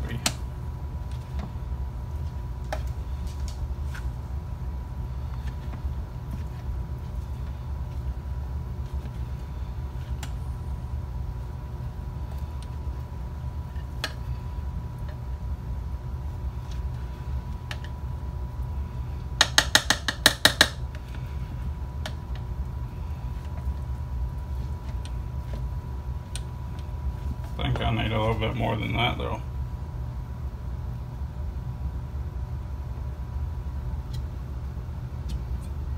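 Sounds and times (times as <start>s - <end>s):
slow cooker hum: 0.0s - 35.9s.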